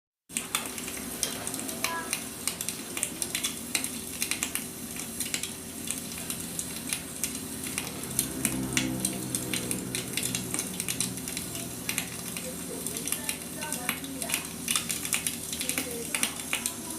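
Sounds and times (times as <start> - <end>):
firewood crackling and popping: 0.3 - 16.9.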